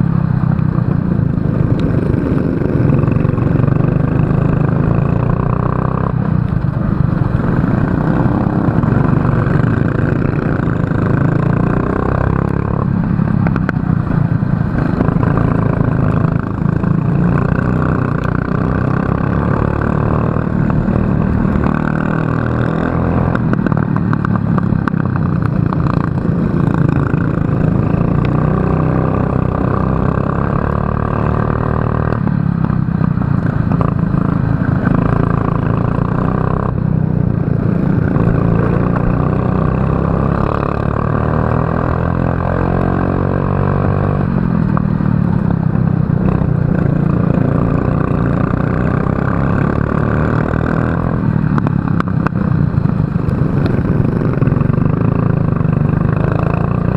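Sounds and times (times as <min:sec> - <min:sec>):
kart engine revving: 0:01.2 - 0:56.9.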